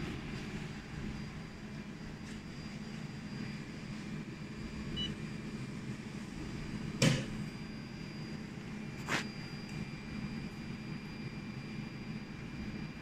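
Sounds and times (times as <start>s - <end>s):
laser welding machine humming: 0.0s - 13.0s.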